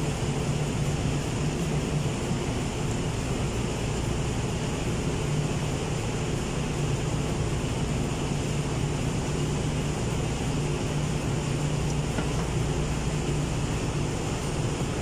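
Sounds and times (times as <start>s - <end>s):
engine room low hum: 0.0s - 15.0s.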